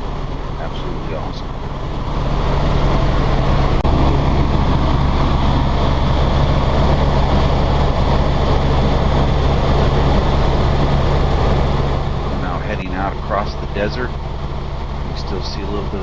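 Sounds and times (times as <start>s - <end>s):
broad rushing noise: 0.0s - 16.0s
helicopter cabin hum: 0.0s - 16.0s.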